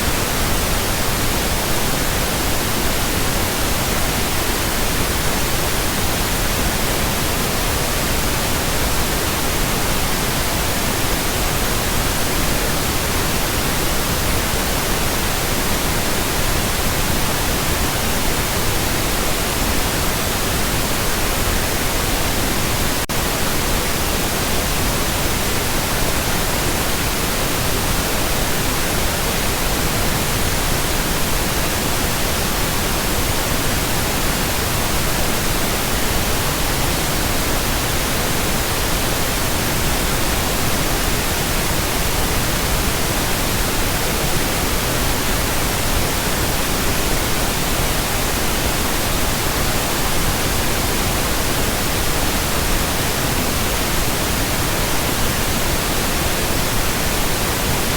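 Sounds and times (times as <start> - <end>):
pink noise hiss: 0.0 - 57.9.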